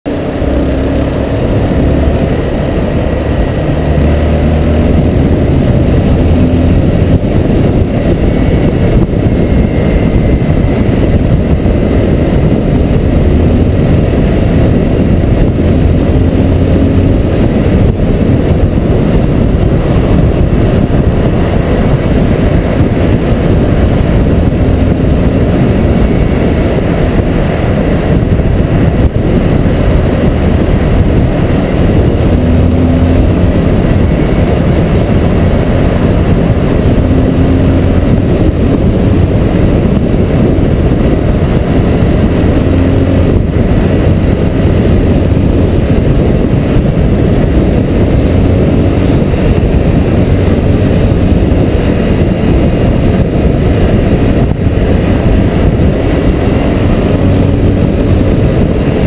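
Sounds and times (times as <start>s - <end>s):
motorcycle engine at road speed: 0.0s - 59.0s
wind rush on microphone: 0.0s - 59.0s.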